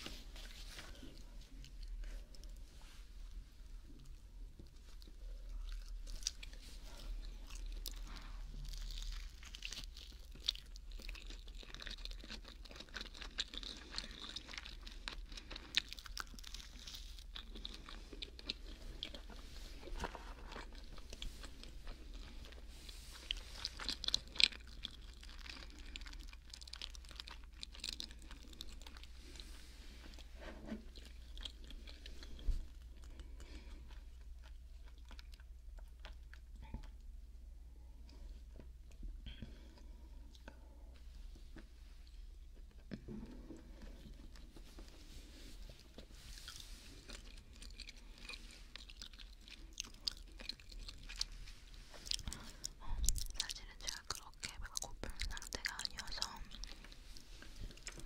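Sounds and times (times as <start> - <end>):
close-up chewing: 0.0 - 58.0.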